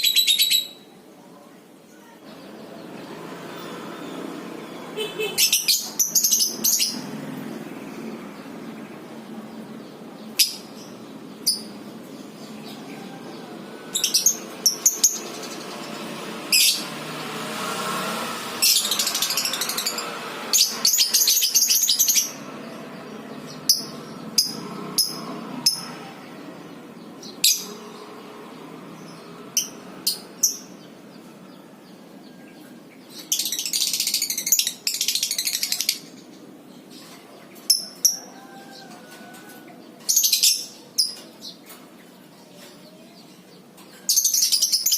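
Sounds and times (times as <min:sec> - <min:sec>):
lovebirds chirping: 0:00.0 - 0:17.9, 0:18.6 - 0:44.9.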